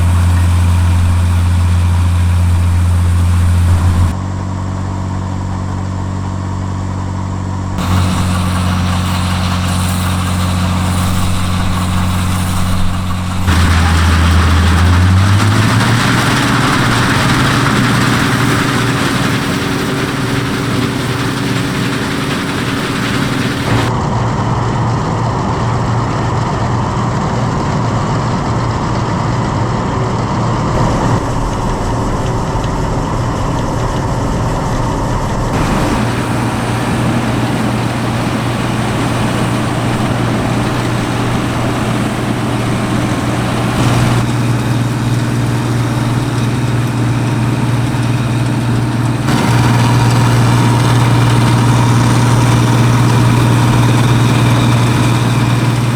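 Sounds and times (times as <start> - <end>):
combine harvester running: 0.0 - 55.9.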